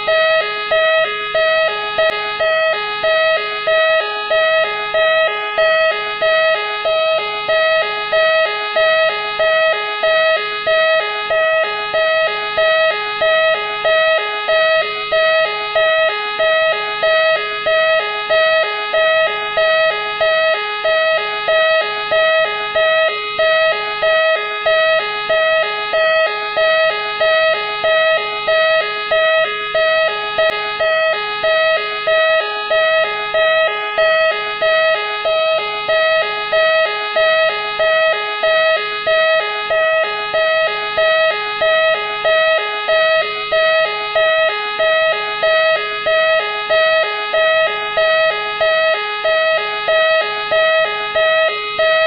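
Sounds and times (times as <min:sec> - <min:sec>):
electronic police siren: 0:00.0 - 0:52.0.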